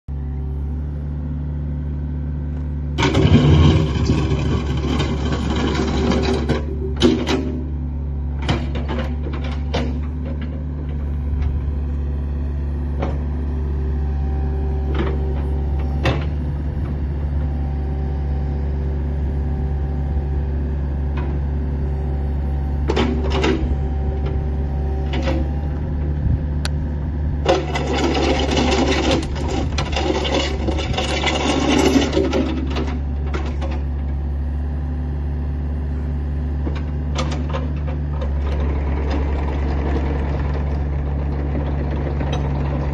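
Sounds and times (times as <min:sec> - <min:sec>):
excavator diesel engine running: 0:00.1 - 0:42.9
hydraulics working: 0:02.9 - 0:18.6, 0:21.1 - 0:34.6, 0:35.8 - 0:42.9.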